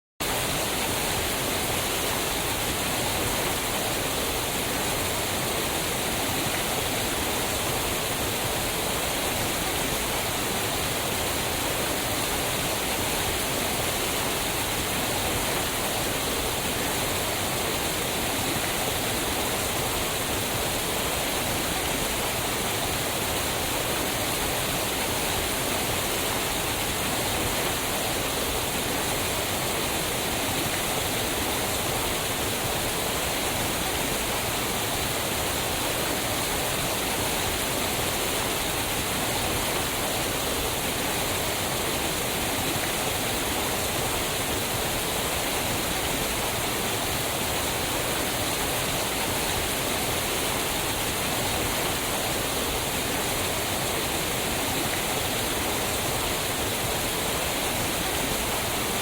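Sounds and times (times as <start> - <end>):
waterfall onto rocks: 0.2 - 59.0.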